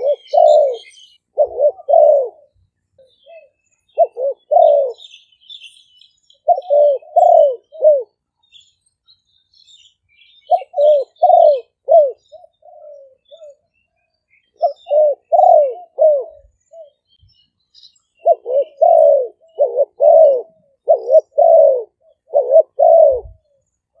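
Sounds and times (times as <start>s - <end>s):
dove cooing: 0.0s - 8.3s, 10.2s - 17.2s, 18.1s - 24.0s
faint small bird chirps: 0.0s - 19.8s.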